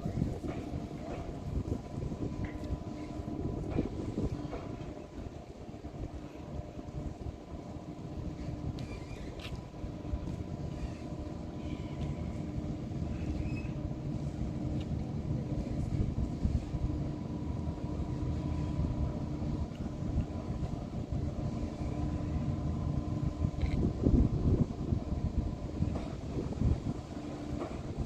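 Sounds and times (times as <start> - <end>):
thin steady whine: 0.0 - 28.0
vehicle engine rumble: 0.0 - 28.0.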